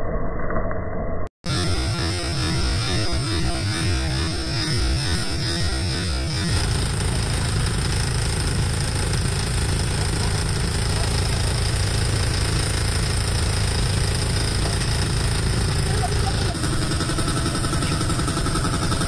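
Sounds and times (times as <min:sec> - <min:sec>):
boat engine running: 0:01.4 - 0:19.0.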